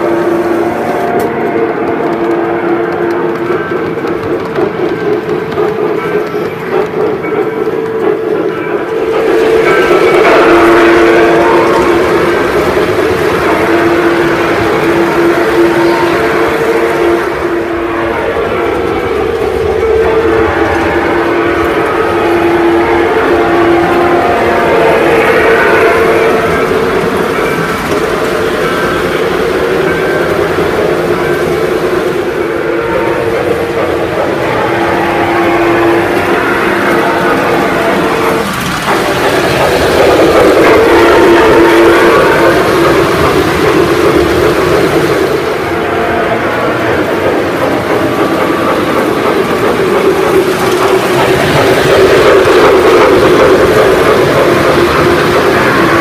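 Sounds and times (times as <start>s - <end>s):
model train wheels rumbling: 0.0s - 56.0s.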